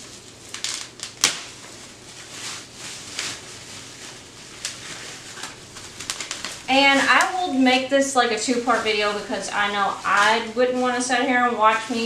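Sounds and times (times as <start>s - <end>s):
packaging rustling: 0.3s - 12.0s.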